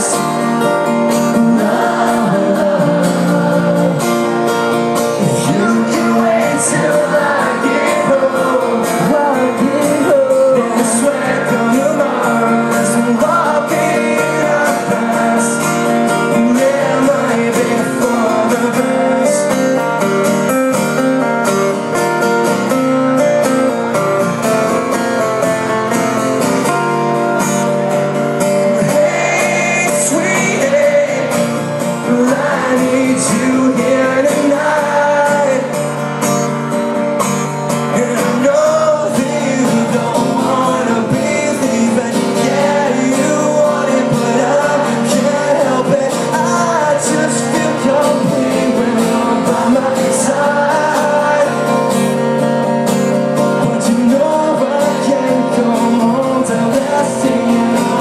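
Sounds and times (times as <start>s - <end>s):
person singing: 0.0s - 23.5s, 26.0s - 36.6s, 37.7s - 52.4s, 53.4s - 58.0s
acoustic guitars playing live: 0.0s - 58.0s.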